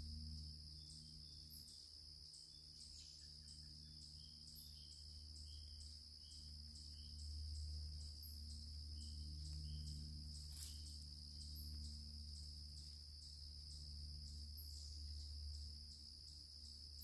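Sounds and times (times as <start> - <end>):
crickets chirping: 0.0 - 17.0
low steady rumble: 0.0 - 17.0.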